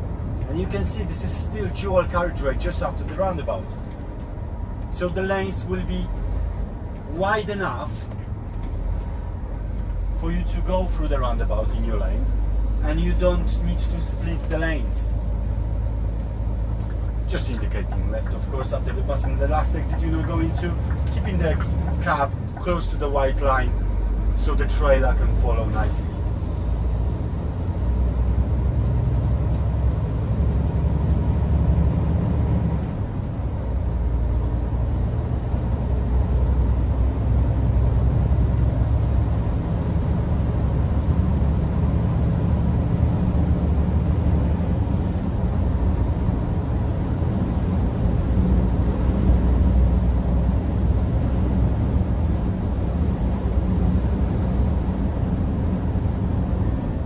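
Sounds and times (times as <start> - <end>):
diesel engine rumble: 0.0 - 57.0
road noise: 0.0 - 57.0.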